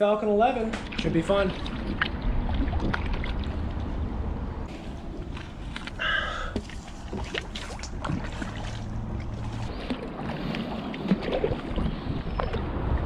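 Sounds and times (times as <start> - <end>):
low steady rumble: 0.6 - 13.0
paddle splashing in water: 0.8 - 4.0, 4.8 - 13.0.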